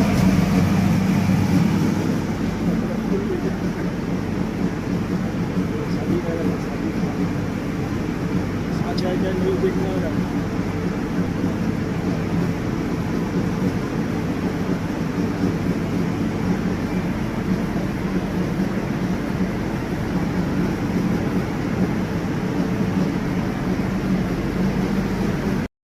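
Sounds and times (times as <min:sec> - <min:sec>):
electric locomotive running hum: 0:00.0 - 0:25.7.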